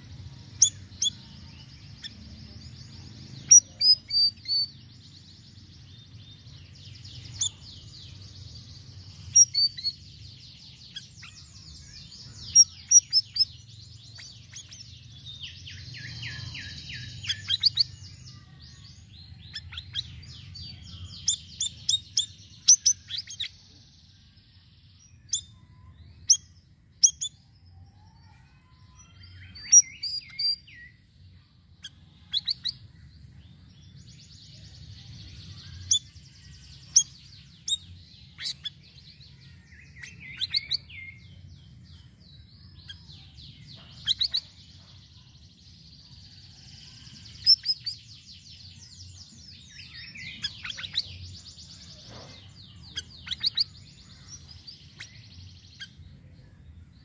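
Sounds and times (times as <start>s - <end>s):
bird chirping and trilling: 0.0s - 57.0s.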